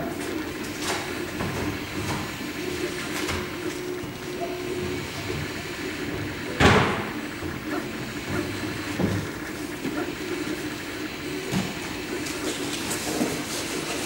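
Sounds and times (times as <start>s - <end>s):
three-d printer humming: 0.0s - 14.0s.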